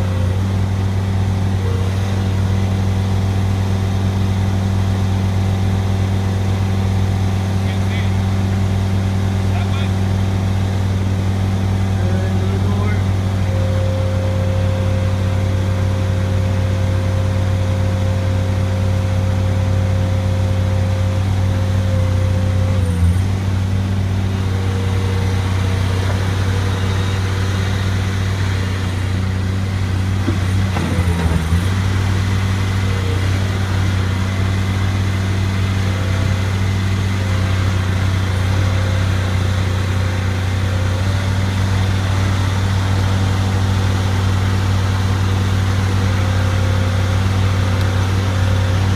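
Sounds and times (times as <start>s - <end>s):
loader engine running: 0.0s - 48.9s
steady whine: 0.0s - 48.9s.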